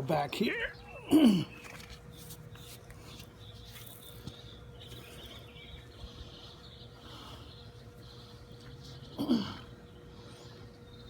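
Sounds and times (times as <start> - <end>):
distant birds chirping: 0.0 - 11.0
faint steady hum: 0.0 - 11.0.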